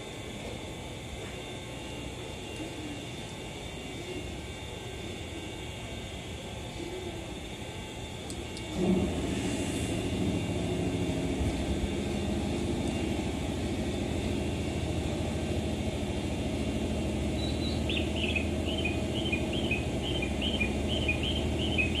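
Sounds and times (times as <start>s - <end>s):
station hum and rumble: 0.0s - 22.0s.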